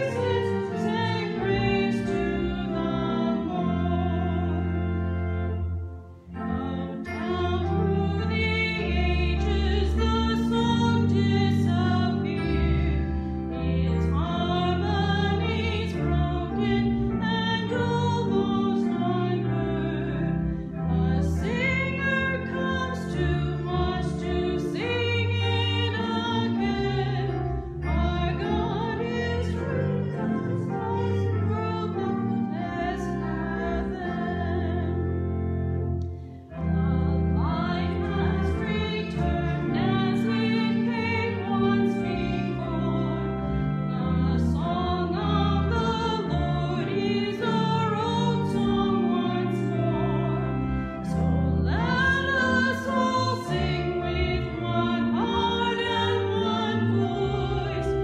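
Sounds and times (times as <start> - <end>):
hymn singing: 0.0 - 58.0
instrumental accompaniment: 0.0 - 58.0.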